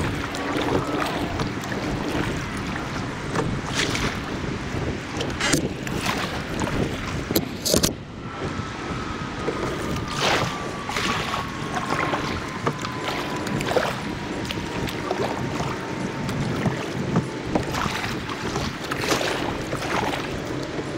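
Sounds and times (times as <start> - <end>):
kayak paddle splashing: 0.0 - 20.9
water and air noise: 0.0 - 20.9.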